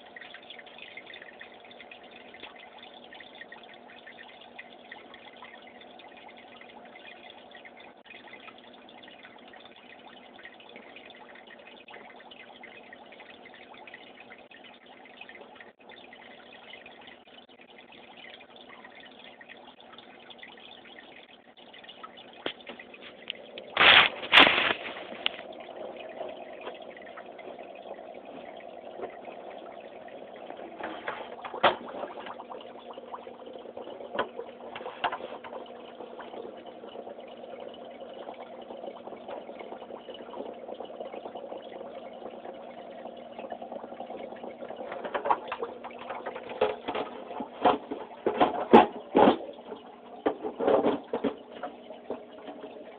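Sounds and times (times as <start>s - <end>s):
aquarium pump humming: 0.0s - 52.9s
trickling bubbling water: 0.0s - 52.9s.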